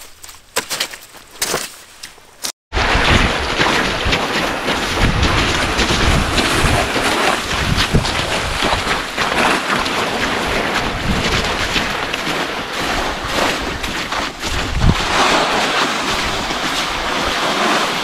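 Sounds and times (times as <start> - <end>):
boots stepping on ice: 0.0 - 2.5, 3.6 - 18.0
wind buffeting microphone: 2.7 - 18.0.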